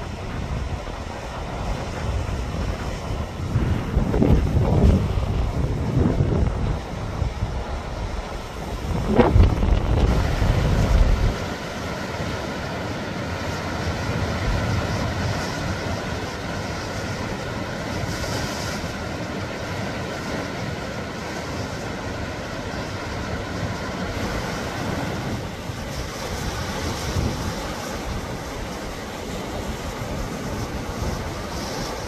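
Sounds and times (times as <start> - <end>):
sea surf breaking on rocks: 0.0 - 32.0
wind buffeting microphone: 0.0 - 32.0.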